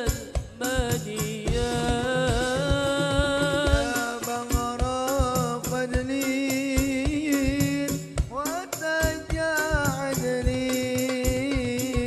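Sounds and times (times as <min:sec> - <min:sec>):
frame drums beating: 0:00.0 - 0:12.0.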